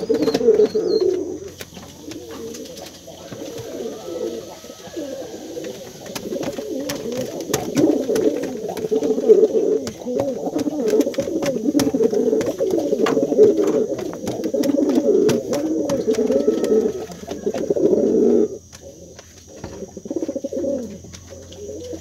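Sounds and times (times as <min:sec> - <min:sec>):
pigeon cooing: 0:00.0 - 0:22.0.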